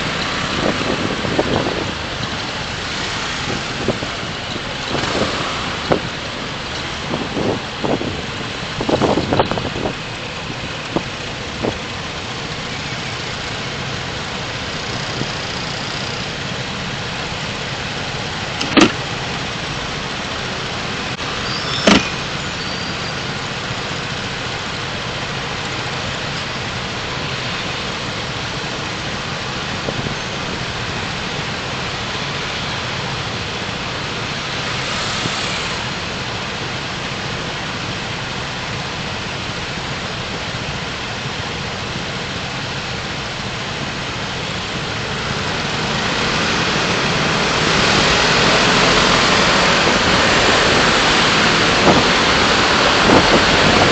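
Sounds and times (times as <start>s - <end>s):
car road and engine noise: 0.0s - 53.9s.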